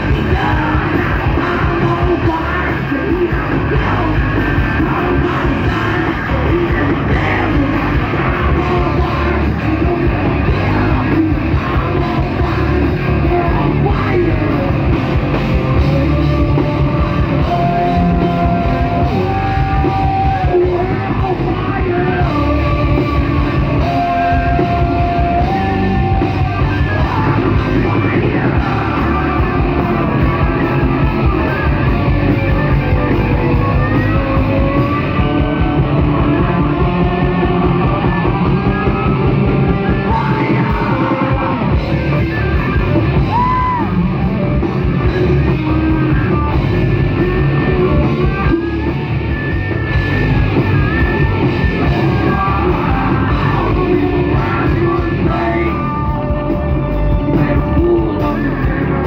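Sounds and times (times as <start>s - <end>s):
bending melody line: 0.0s - 59.0s
live rock band playing: 0.0s - 59.0s.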